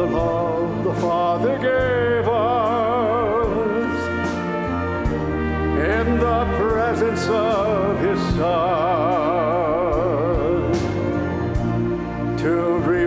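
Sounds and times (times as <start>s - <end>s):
steady musical accompaniment: 0.0s - 13.0s.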